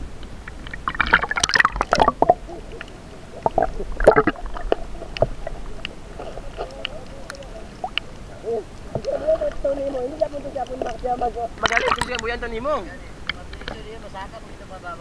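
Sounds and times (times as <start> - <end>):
water splashing and sloshing: 0.0 - 13.9
muffled underwater sound: 0.4 - 12.5.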